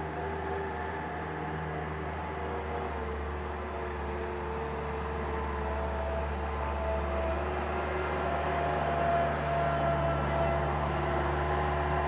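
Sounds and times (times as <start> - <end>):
skid-steer loader diesel engine: 0.0 - 12.0.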